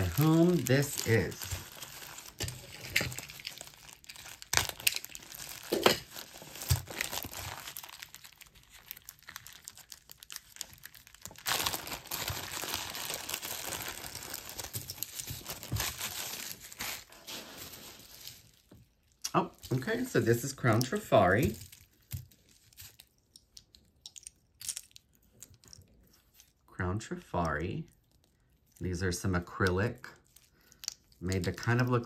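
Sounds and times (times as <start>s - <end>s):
packaging crinkling: 0.0s - 26.6s.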